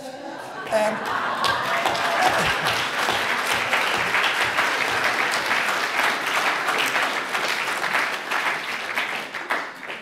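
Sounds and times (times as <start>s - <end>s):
audience applauding: 0.5s - 10.0s.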